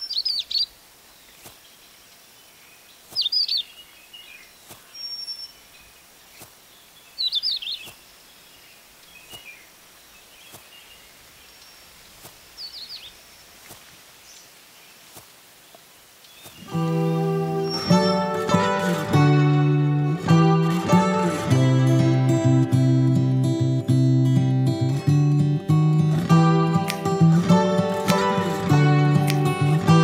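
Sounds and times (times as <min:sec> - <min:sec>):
faint hiss of outdoor air: 0:00.0 - 0:30.0
songbirds chirping: 0:00.0 - 0:30.0.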